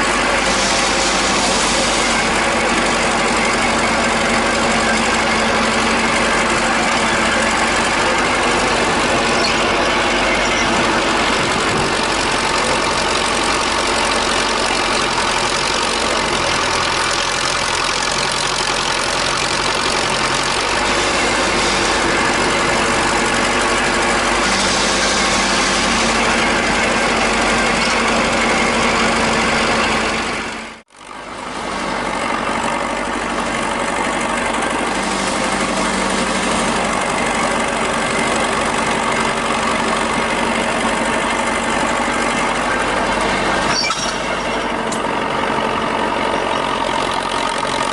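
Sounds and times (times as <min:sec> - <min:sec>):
old tractor engines idling: 0:00.0 - 0:47.9.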